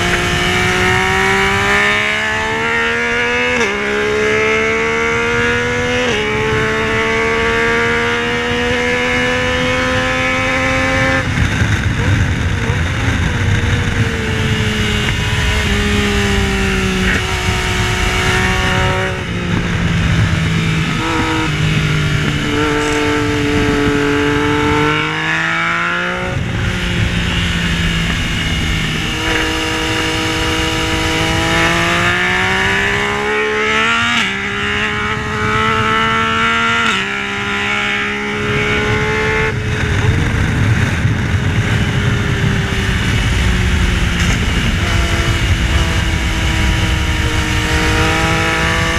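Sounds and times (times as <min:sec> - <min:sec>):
motorcycle engine accelerating: 0:00.0 - 0:48.9
wind noise rushing: 0:00.0 - 0:48.9.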